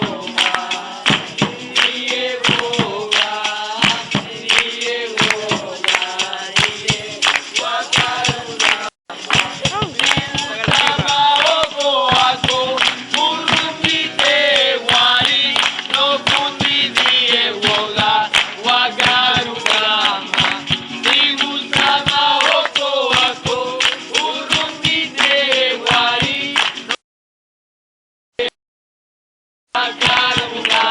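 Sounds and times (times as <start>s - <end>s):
steady percussive beat: 0.0s - 26.9s, 29.9s - 30.9s
voices singing together: 0.0s - 27.0s, 29.7s - 30.9s.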